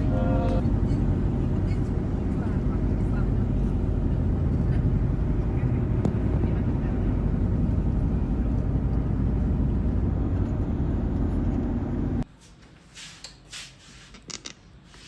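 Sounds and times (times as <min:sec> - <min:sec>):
vehicle rumble from inside: 0:00.0 - 0:12.3.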